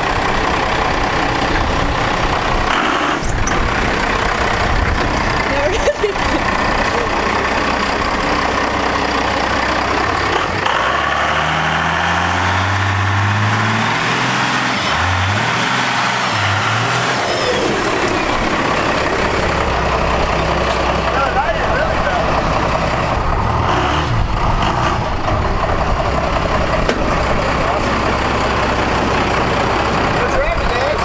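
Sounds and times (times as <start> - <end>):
diesel engine accelerating: 0.0 - 31.0
high turbo whine: 0.0 - 31.0.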